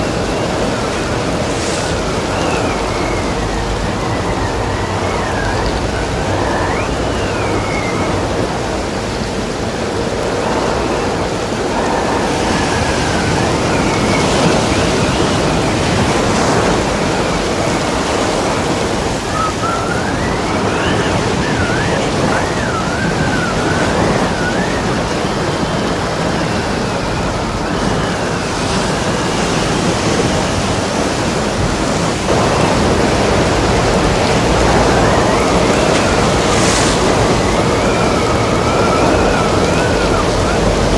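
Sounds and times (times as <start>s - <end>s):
rushing storm wind: 0.0s - 40.9s
surf waves: 0.0s - 40.9s
wind whistling: 0.0s - 40.9s.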